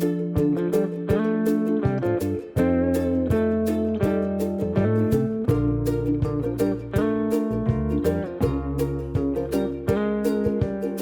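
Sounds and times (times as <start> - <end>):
strummed guitar music with beat: 0.0 - 11.0.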